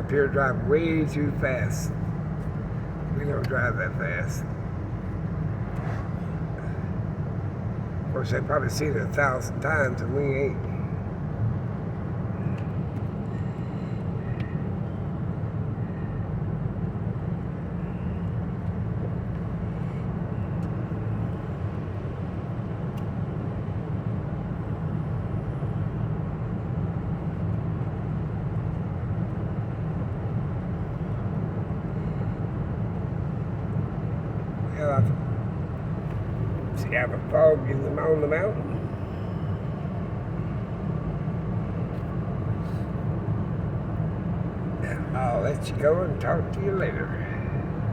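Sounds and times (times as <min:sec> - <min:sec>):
vehicle cabin road and engine rumble: 0:00.0 - 0:47.9.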